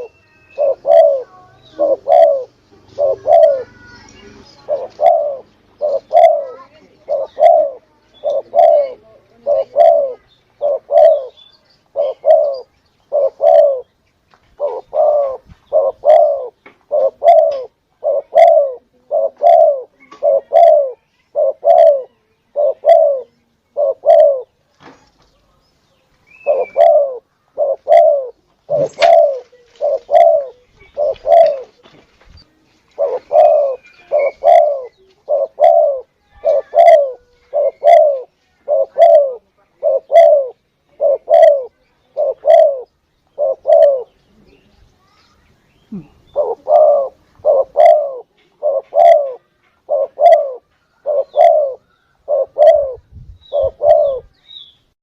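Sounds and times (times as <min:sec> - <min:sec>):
dove cooing: 0:00.0 - 0:13.9, 0:14.6 - 0:24.6, 0:26.4 - 0:31.9, 0:32.9 - 0:44.2, 0:45.9 - 0:54.4
small birds chirping: 0:00.0 - 0:55.0.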